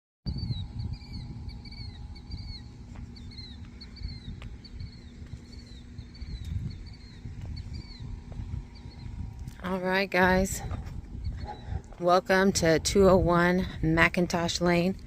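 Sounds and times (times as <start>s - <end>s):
birds chirping: 0.3s - 15.0s
low rumble: 0.3s - 15.0s.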